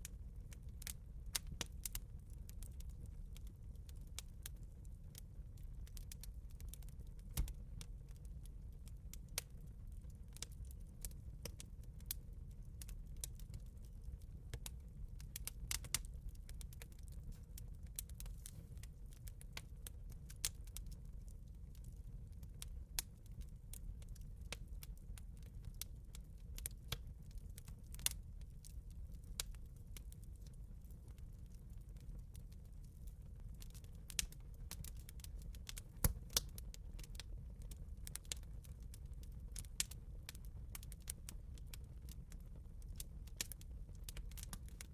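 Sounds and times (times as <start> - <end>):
bonfire crackling and popping: 0.0 - 44.9
low rumble of burning fire: 0.0 - 44.9.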